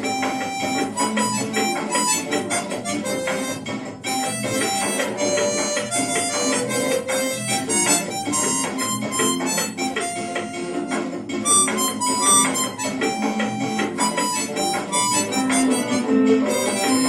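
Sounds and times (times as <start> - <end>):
harmonica playing short notes: 0.0 - 17.0.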